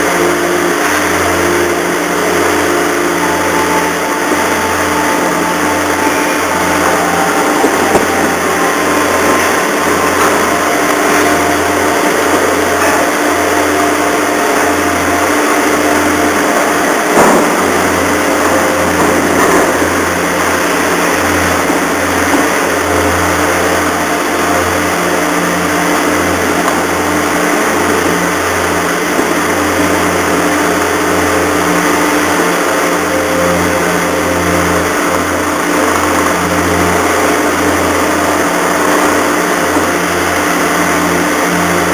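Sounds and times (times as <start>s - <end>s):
ship diesel engines droning: 0.0s - 41.9s
steady tone: 0.0s - 41.9s.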